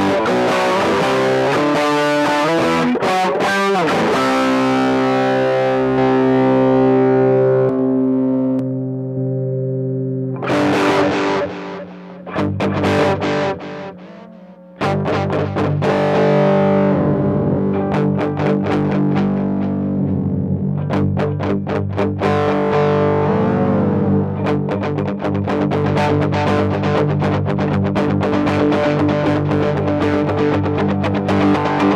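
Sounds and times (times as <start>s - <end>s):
distorted electric guitar: 0.0s - 31.9s.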